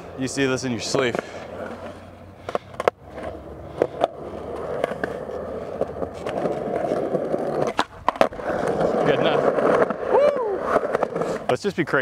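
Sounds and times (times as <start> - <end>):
skateboard wheels rolling on concrete: 0.0 - 12.0
skateboard clacks: 0.8 - 11.8.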